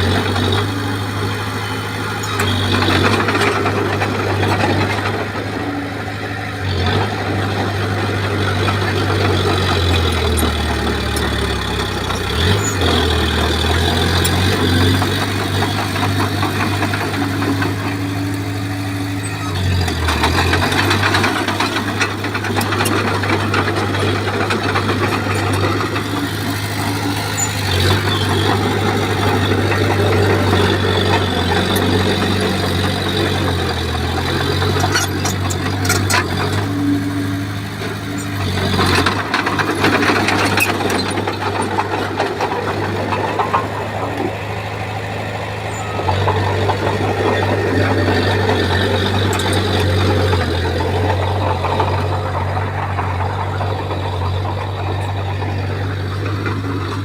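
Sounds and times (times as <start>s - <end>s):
bulldozer diesel engine under load: 0.0s - 57.0s
tracks rattling and soil scraping: 0.0s - 57.0s.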